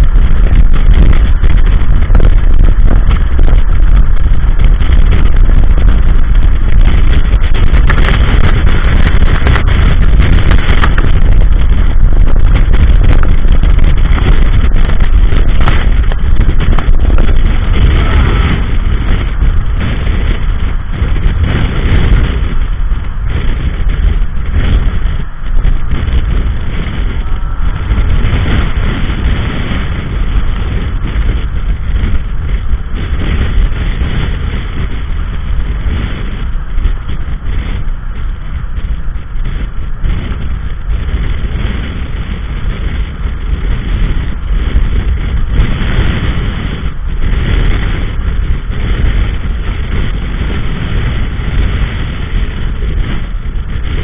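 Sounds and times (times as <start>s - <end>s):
strong wind buffeting microphone: 0.0s - 54.0s.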